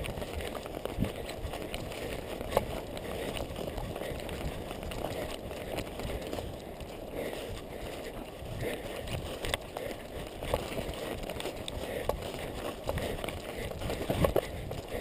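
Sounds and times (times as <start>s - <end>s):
footsteps through undergrowth: 0.0s - 15.0s
twigs snapping: 0.0s - 15.0s.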